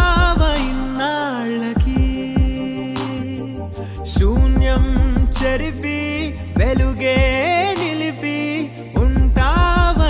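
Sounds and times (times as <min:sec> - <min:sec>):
electronic music with bass beat: 0:00.0 - 0:10.0.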